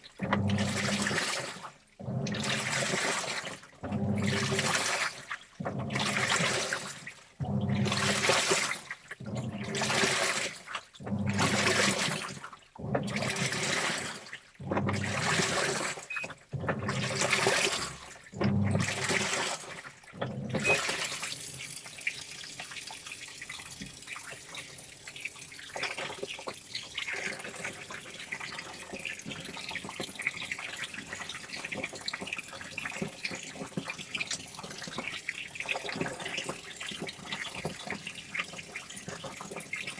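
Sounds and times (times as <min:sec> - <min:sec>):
washing machine churning: 0:00.1 - 0:39.9.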